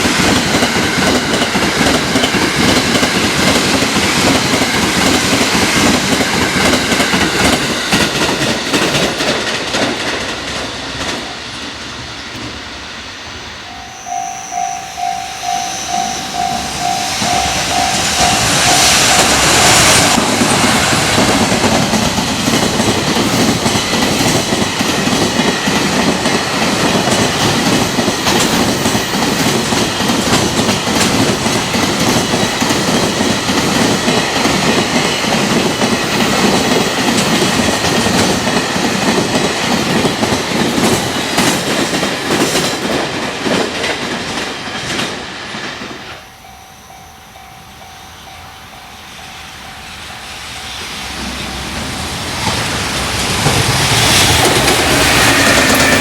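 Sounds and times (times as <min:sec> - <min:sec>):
locomotive rushing past: 0:00.0 - 0:56.0
crossing warning bell: 0:10.6 - 0:56.0.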